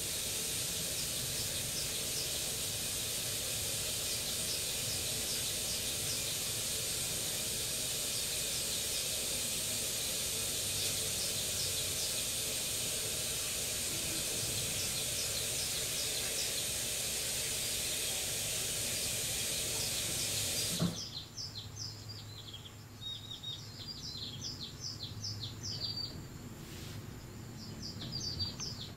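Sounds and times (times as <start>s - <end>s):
steady hiss: 0.0s - 21.9s, 24.4s - 28.9s
small birds chirping: 0.0s - 28.9s.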